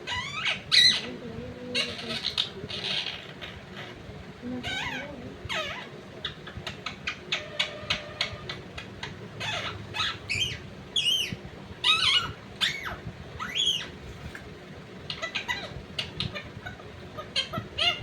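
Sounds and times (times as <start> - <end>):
parrot chirping and squawking: 0.0 - 14.0, 15.0 - 18.0.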